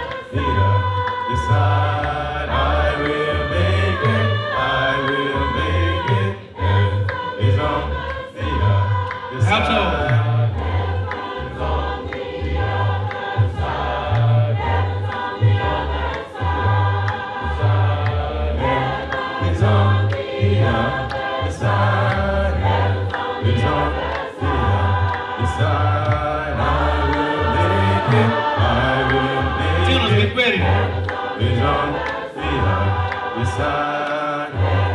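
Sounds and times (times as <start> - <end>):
congregation singing gospel song: 0.0 - 34.9.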